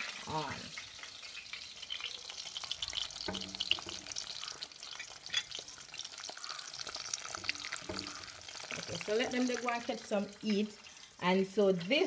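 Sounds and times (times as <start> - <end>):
food crackling in hot oil: 0.0 - 12.0.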